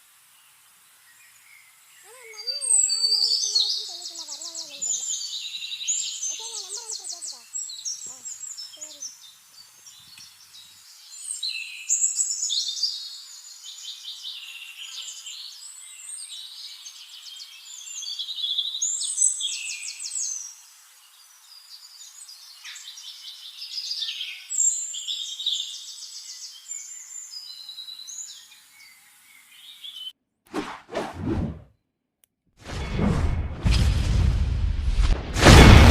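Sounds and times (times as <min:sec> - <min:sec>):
small birds singing and chirping: 0:00.3 - 0:30.2.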